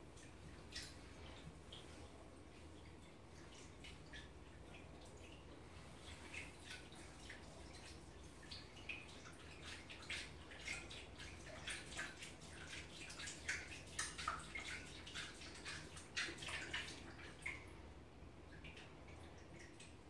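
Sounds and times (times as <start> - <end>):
small water splashes and drips: 0.0 - 20.0.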